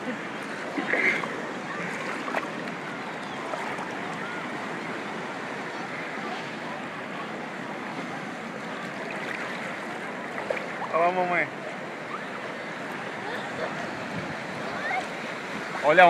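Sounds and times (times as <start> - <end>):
faint distant voices: 0.0 - 16.0
sea surf washing: 0.0 - 16.0.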